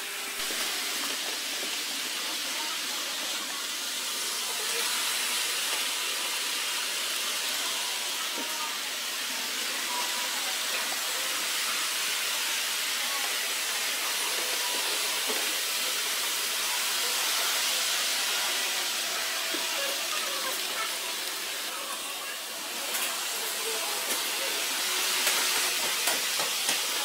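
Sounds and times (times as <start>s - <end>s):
model trains rolling on tracks: 0.0s - 27.0s.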